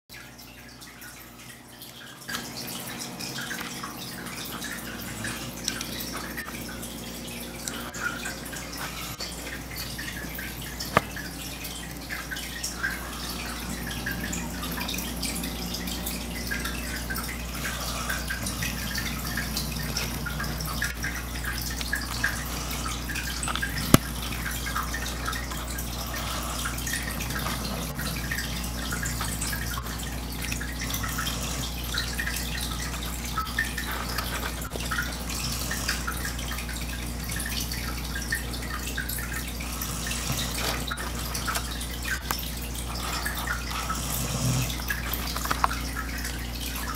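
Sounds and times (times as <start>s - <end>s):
steady low hum: 0.9s - 46.9s.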